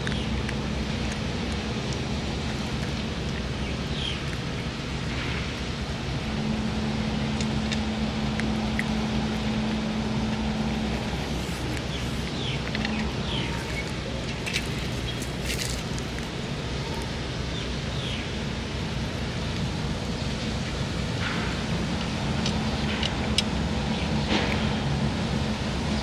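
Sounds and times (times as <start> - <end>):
cat chewing wet food: 0.0 - 25.0
low steady hum: 0.0 - 26.0
outdoor rumble and hiss: 0.0 - 26.0.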